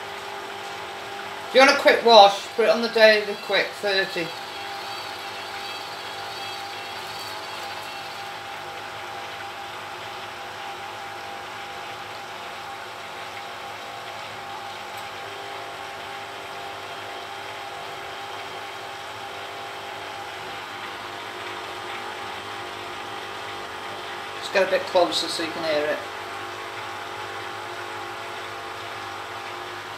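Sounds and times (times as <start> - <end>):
washing machine running: 0.0 - 29.9.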